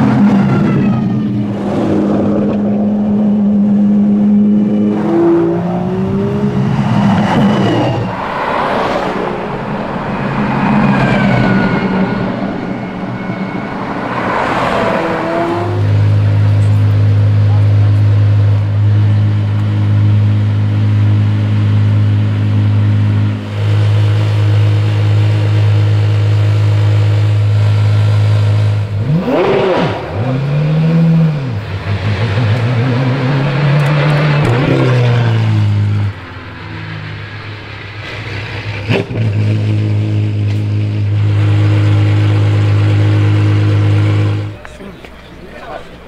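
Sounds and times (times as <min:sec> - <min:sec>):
car engine idling and revving: 0:00.0 - 0:46.0.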